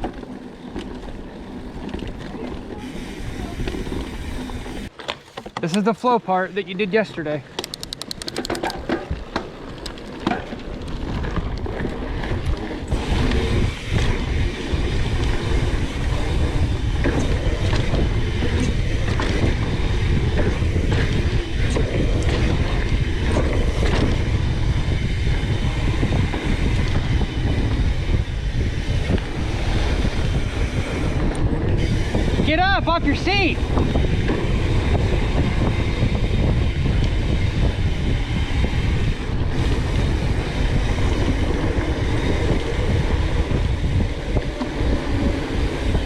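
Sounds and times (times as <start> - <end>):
bike rattling over trail: 0.0 - 46.0
wind rumbling over microphone: 7.8 - 46.0.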